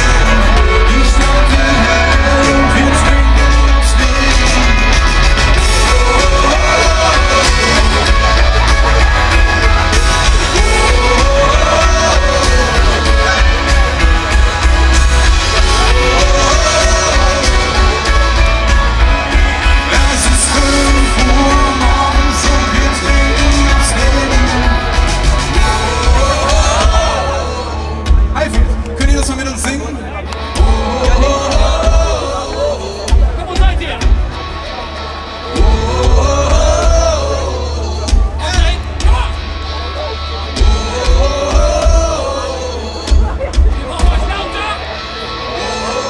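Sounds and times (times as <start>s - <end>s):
person singing: 0.0s - 28.4s, 30.4s - 33.4s, 35.4s - 39.4s, 40.0s - 46.0s
heavy bass: 0.0s - 46.0s
live rock band: 0.0s - 46.0s
loud drums: 0.0s - 46.0s.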